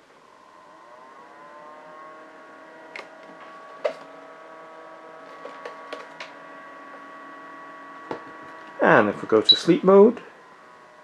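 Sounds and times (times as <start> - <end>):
small fan whirring: 0.0 - 11.0.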